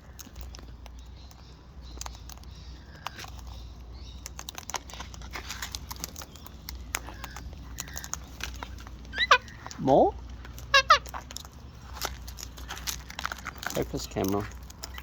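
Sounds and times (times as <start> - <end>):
beaks cracking seed husks: 0.0 - 15.0.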